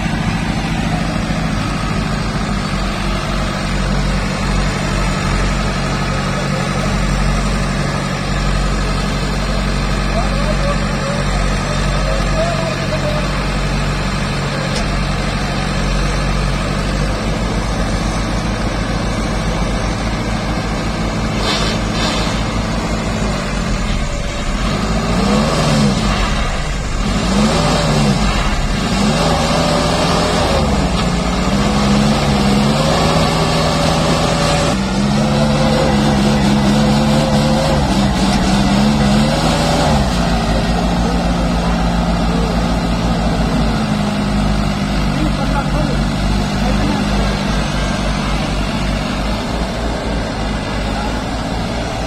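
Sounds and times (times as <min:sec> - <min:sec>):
tractor diesel engine revving: 0:00.0 - 0:52.0.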